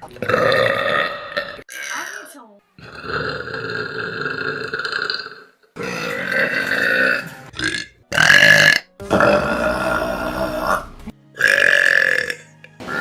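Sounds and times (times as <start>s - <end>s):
person burping loudly: 0.0s - 13.0s.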